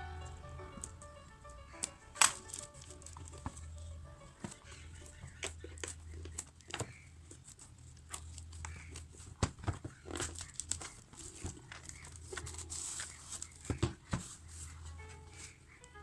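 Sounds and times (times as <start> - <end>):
low steady hum: 0.0 - 13.4
packaging rustling and tapping: 0.7 - 16.0.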